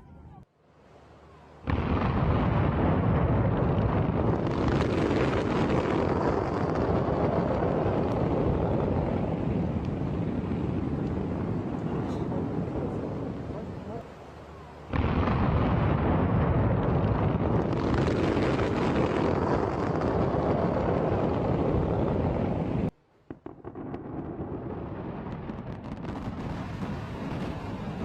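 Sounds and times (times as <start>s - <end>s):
fireworks exploding: 1.6s - 28.0s
crackles and pops: 1.7s - 14.1s, 14.9s - 28.0s.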